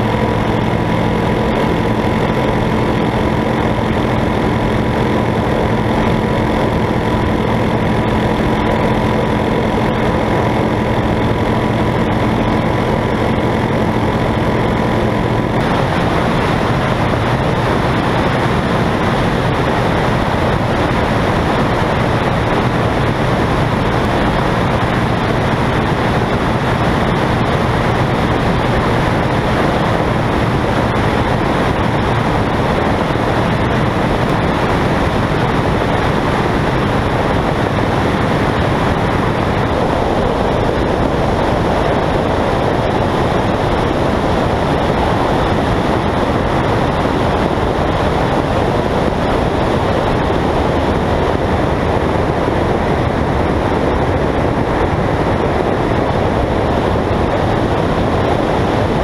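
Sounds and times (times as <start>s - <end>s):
propeller aircraft engine running: 0.0s - 59.0s
wind rushing over microphone: 0.0s - 59.0s.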